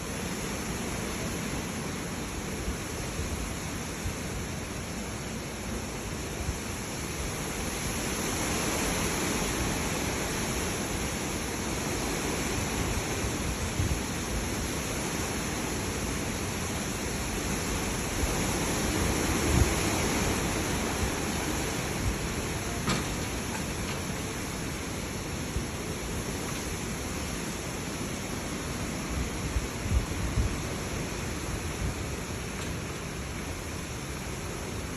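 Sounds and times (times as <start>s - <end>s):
heavy rain: 0.0s - 34.9s
storm wind: 0.0s - 34.9s.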